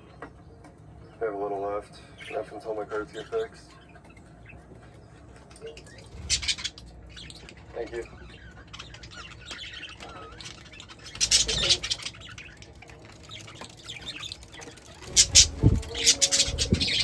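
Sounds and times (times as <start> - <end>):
birds squawking: 1.1 - 17.0.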